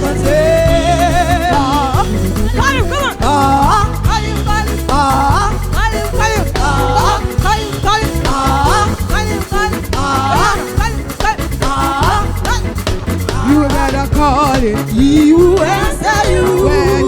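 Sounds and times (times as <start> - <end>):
band playing gospel music: 0.0 - 17.0.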